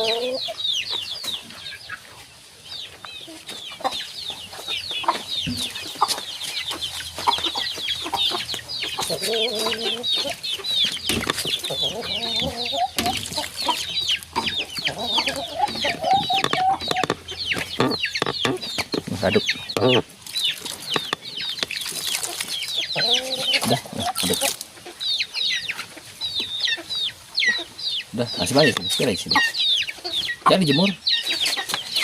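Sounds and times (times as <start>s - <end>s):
chickens clucking: 0.0s - 32.0s
chicks peeping: 0.0s - 32.0s.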